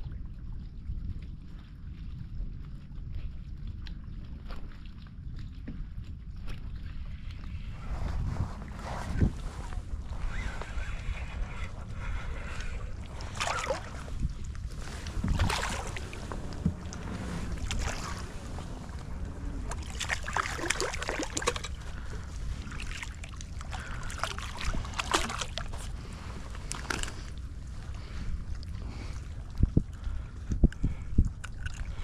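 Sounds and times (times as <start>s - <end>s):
water lapping: 0.0s - 32.0s
wind buffeting microphone: 0.0s - 32.0s.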